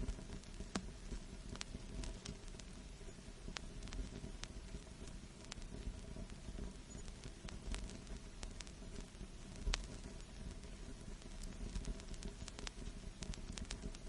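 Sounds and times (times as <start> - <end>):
vinyl crackles and pops: 0.0 - 14.0
vinyl record surface noise: 0.0 - 14.0.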